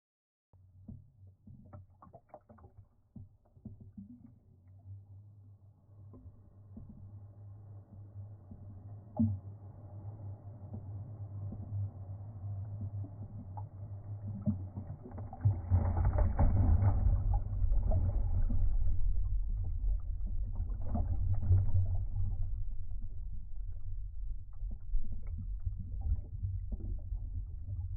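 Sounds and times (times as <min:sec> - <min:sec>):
muffled wave water rumble: 0:00.6 - 0:27.9.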